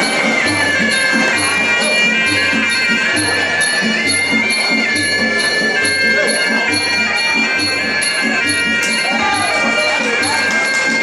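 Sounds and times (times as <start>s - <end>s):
drum beats: 0.0s - 11.0s
oboe wailing melody: 0.0s - 11.0s
small cymbals: 0.0s - 11.0s.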